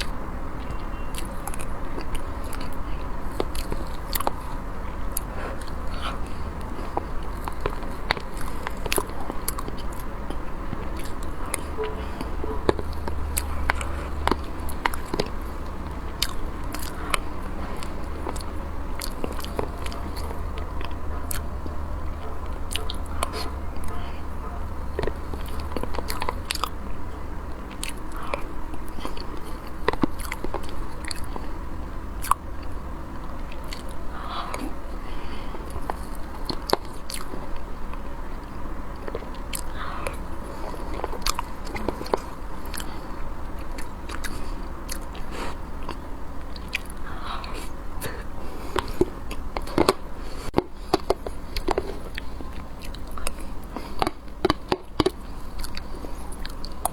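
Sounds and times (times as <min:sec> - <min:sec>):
mouth clicks and smacks: 0:00.0 - 0:31.6, 0:32.2 - 0:56.9
person chewing food: 0:00.0 - 0:56.9.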